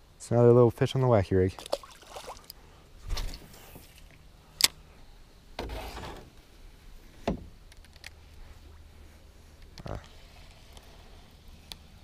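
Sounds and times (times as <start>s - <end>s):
rustle: 0.0s - 12.0s.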